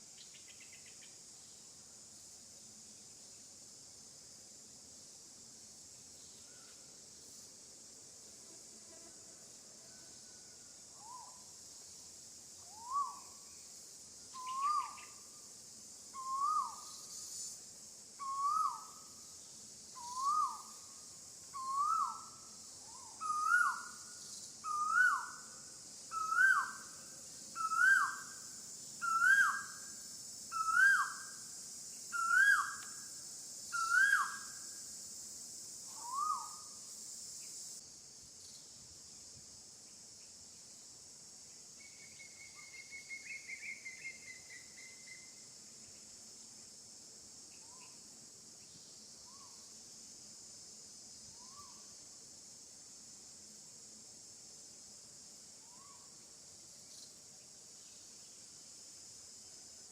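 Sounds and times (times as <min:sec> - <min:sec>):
high insect hiss: 0:00.0 - 0:59.9.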